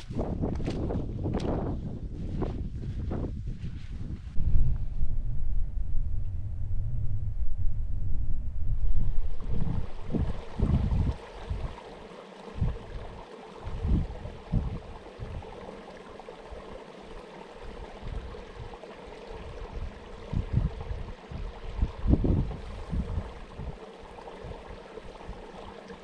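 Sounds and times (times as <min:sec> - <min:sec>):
wind gusting across microphone: 0:00.0 - 0:15.6, 0:17.6 - 0:25.8.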